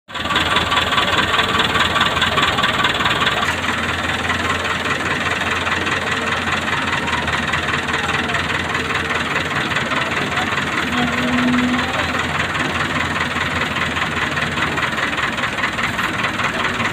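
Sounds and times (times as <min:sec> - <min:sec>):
diesel engine running: 0:00.1 - 0:16.9.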